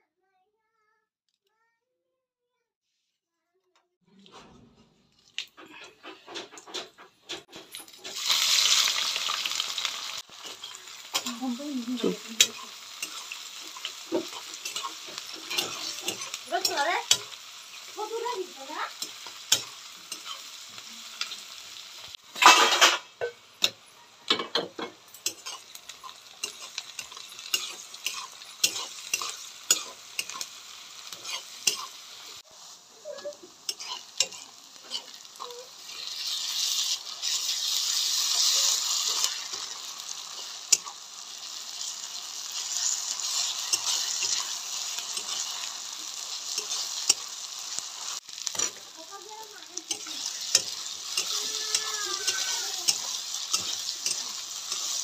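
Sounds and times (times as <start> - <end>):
hot oil sizzling: 5.0 - 55.0
metal spatula scraping a pan: 10.3 - 21.4, 22.1 - 55.0.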